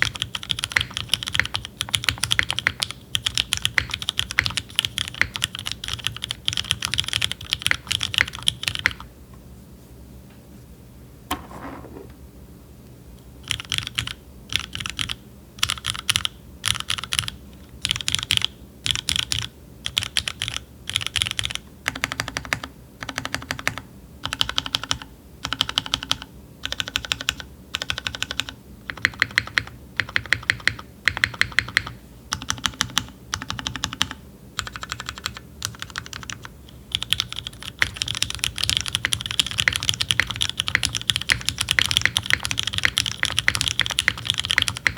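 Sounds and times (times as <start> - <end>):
mechanical keyboard typing: 0.0 - 9.1, 13.4 - 44.9.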